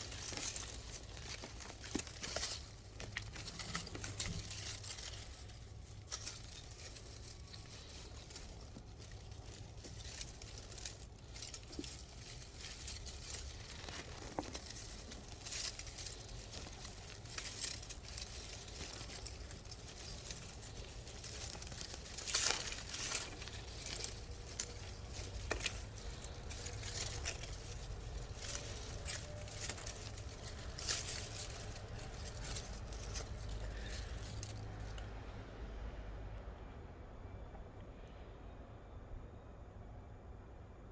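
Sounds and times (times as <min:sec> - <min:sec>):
rustling and crinkling handling: 0:00.0 - 0:35.2
small crackles: 0:00.0 - 0:35.3
steady low hum: 0:00.0 - 0:40.9.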